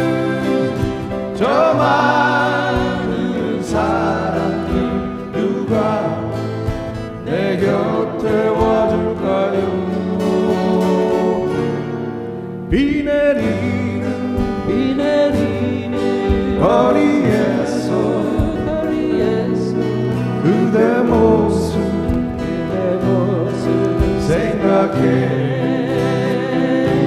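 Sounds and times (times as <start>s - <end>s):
acoustic guitars strumming: 0.0s - 27.0s
keyboard: 0.0s - 27.0s
person singing: 0.0s - 27.0s.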